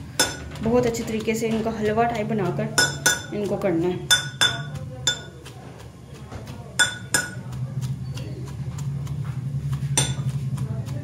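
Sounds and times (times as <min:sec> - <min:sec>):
pestle clinking in metal mortar: 0:00.0 - 0:11.0.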